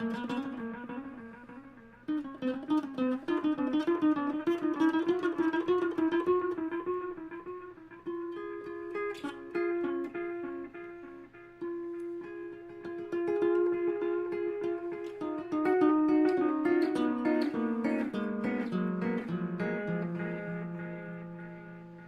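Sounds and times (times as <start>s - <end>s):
electric guitar with echoing notes: 0.0s - 22.0s.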